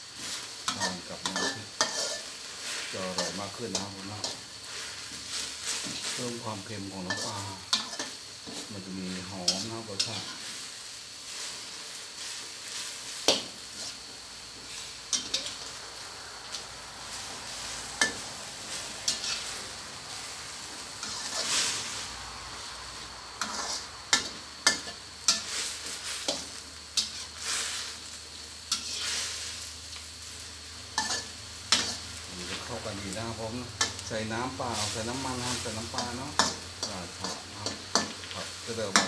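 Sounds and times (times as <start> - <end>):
spatula scraping a wok: 0.0 - 39.0
vegetables sizzling in oil: 0.0 - 39.0.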